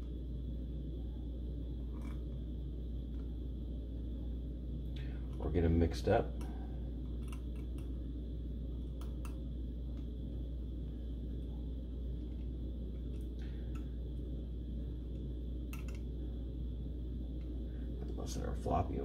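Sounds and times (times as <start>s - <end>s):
faint high whine: 0.0s - 19.0s
steady low hum: 0.0s - 19.0s.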